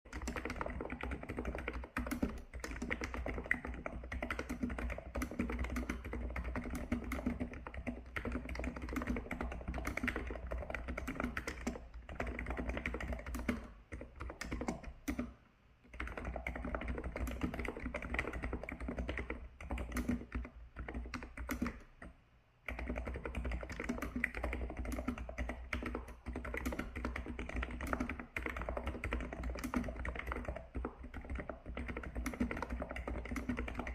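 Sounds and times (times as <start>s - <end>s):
fast typing on keyboard: 0.1s - 22.1s, 22.7s - 33.9s.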